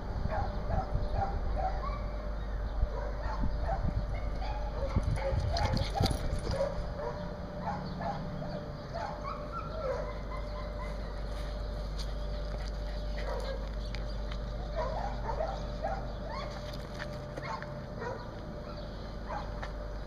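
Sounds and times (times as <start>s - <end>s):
dogs barking and yipping: 0.3s - 19.9s.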